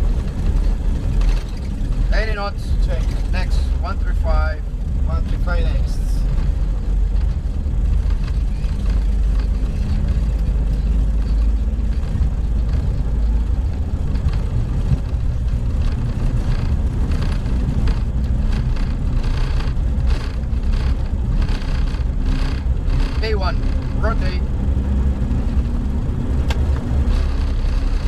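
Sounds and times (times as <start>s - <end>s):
wheels running on runway: 0.0s - 28.0s.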